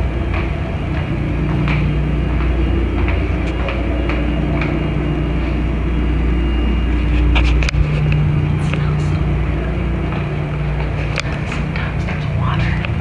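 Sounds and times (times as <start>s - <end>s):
light footsteps: 0.0s - 13.0s
machinery and ventilation drone: 0.0s - 13.0s.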